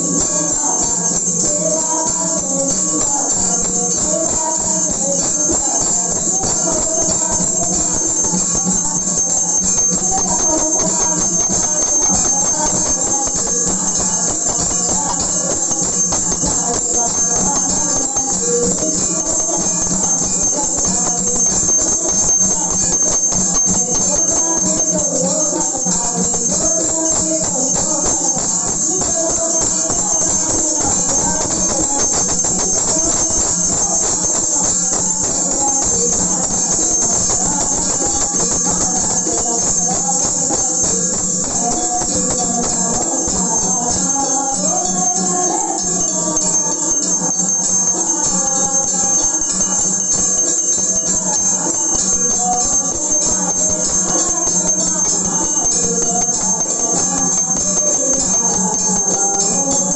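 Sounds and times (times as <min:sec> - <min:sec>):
wavering devotional melody: 0:00.0 - 0:59.9.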